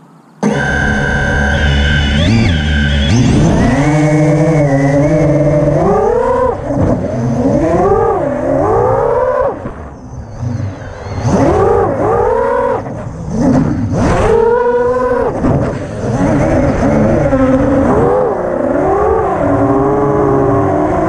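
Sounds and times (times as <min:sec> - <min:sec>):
quadcopter motors whining: 0:00.4 - 0:21.0.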